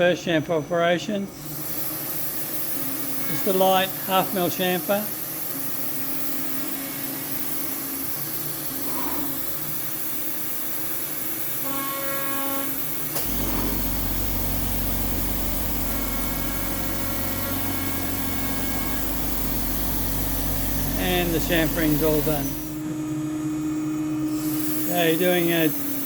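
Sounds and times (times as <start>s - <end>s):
cnc router machine whine: 1.3s - 26.0s.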